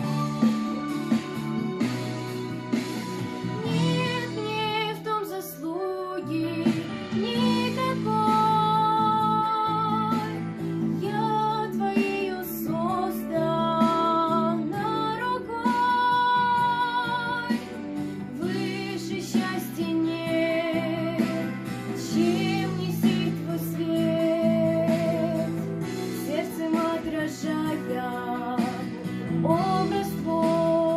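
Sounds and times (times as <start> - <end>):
instrumental accompaniment: 0.0 - 30.9
girl singing worship song: 3.6 - 17.7, 18.4 - 25.6, 26.2 - 30.9.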